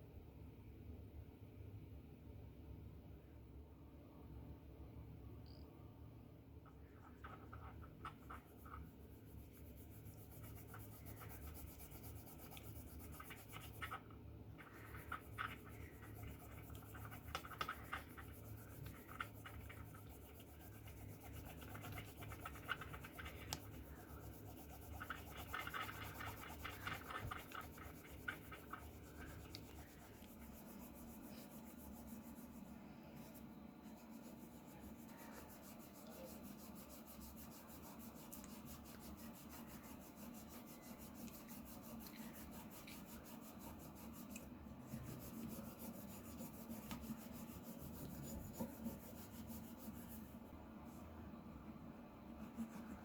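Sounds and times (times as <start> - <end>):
faint scratching and rubbing: 6.6 - 51.1, 52.3 - 53.0.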